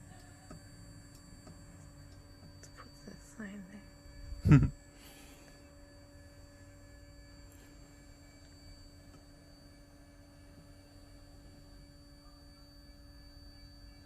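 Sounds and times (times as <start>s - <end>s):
stepper motor whine: 0.0s - 14.0s.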